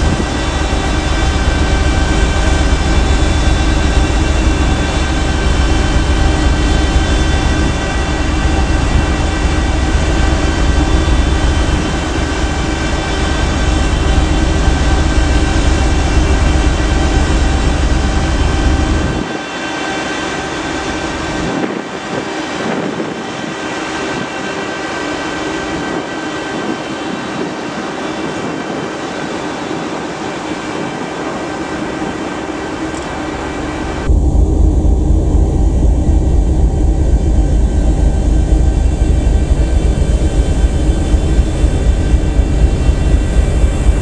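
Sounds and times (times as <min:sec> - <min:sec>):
ferry engines droning: 0:00.0 - 0:44.0
wind rumble on microphone: 0:00.0 - 0:44.0.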